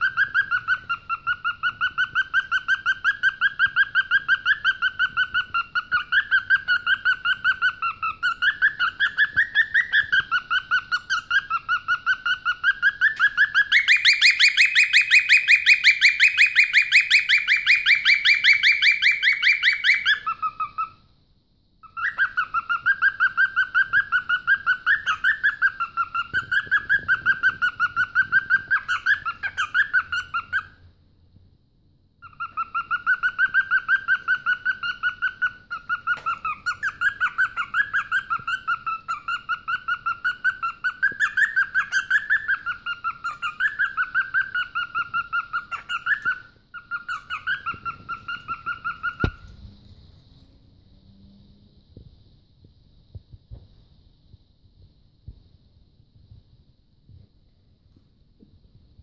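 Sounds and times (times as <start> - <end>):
cockatiel chirping: 0.0 - 21.1, 21.8 - 30.9, 32.2 - 49.6.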